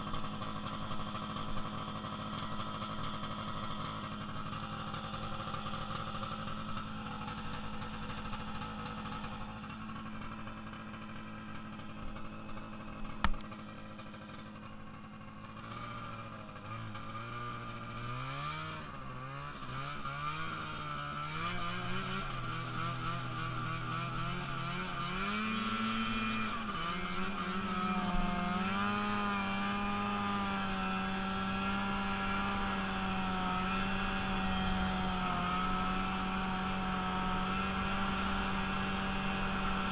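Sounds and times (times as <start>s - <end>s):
vehicle engine idling and revving: 0.0s - 39.9s.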